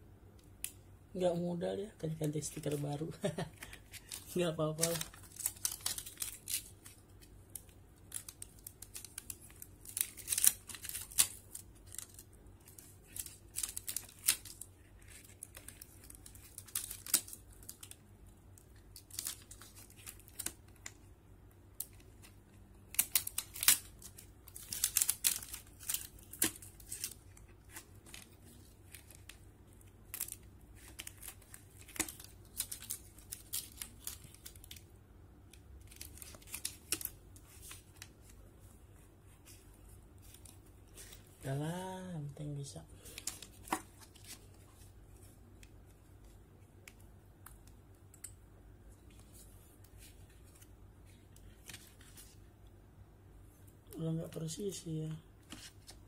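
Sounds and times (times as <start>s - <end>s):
plastic sticker sheet crinkling: 2.0s - 21.1s, 21.7s - 41.6s, 43.0s - 48.3s, 49.0s - 52.4s.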